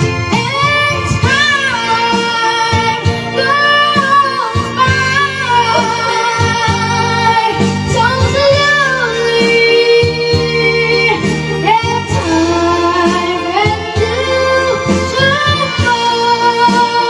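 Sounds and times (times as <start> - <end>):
high-pitched singing voice: 0.0 - 17.0
instrumental accompaniment with beat: 0.0 - 17.0.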